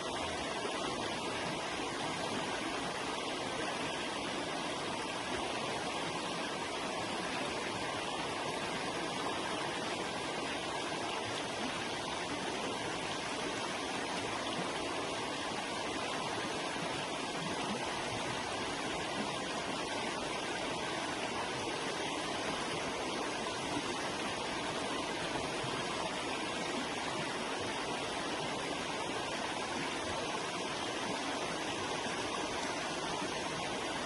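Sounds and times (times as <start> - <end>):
river flowing over rocks: 0.0 - 34.0.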